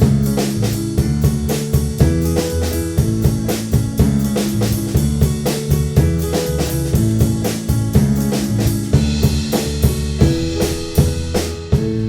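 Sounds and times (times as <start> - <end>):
band playing instrumental: 0.0 - 12.0
drum kit beat: 0.0 - 12.0.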